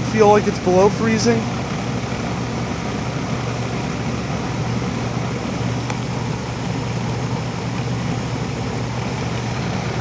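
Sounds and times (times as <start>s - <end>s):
heat pump humming: 0.0s - 10.0s.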